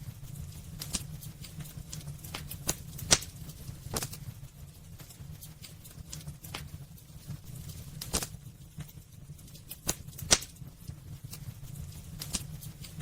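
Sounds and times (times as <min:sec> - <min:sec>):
low rumble of flames: 0:00.0 - 0:13.0
wood fire crackling: 0:00.0 - 0:13.0.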